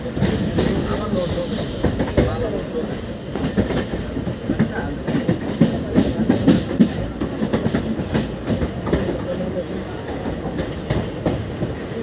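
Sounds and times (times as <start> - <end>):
train rumble: 0.0 - 12.0
train wheels clattering over rail joints: 0.0 - 12.0.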